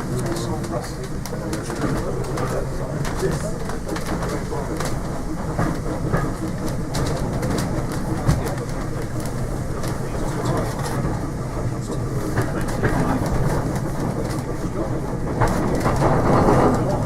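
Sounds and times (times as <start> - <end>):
train rumble on board: 0.0 - 17.0
wheels clicking on track: 0.0 - 17.0.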